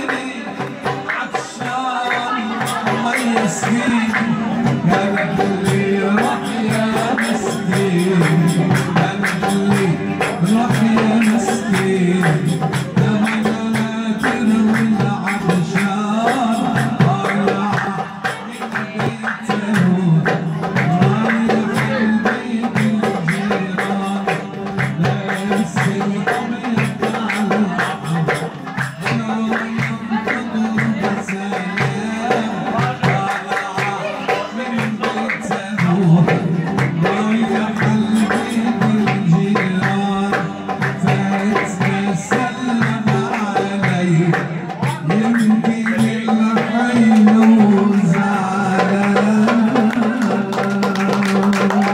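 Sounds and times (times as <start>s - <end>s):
hand claps: 0.0s - 51.9s
man singing into microphone: 0.0s - 51.9s.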